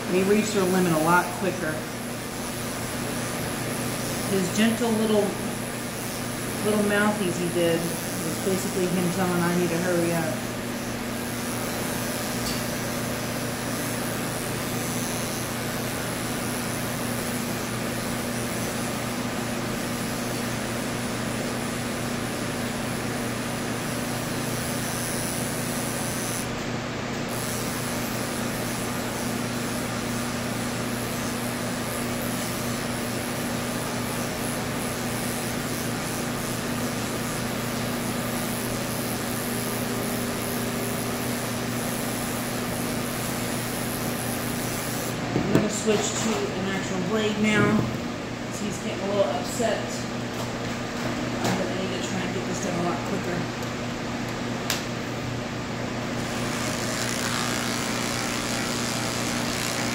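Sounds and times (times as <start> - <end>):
electric pet clippers humming: 0.0 - 50.5, 51.4 - 59.9.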